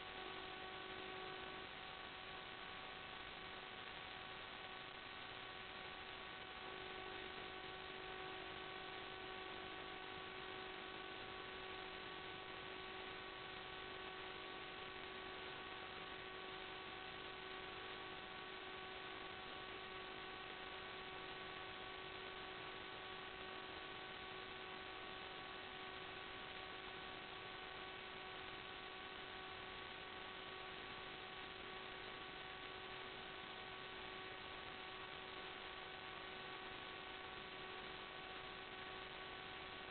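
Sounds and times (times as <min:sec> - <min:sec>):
electronic hum: 0:00.0 - 0:39.9.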